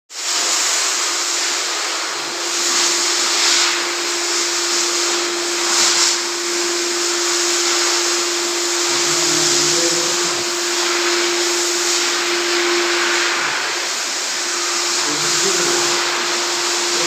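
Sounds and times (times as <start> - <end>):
vacuum cleaner running: 0.1 - 17.0.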